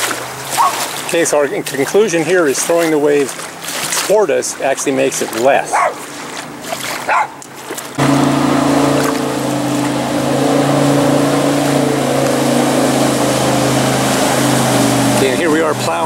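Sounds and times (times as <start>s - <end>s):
boat engine running: 0.0s - 16.0s
water rushing along hull: 0.0s - 16.0s.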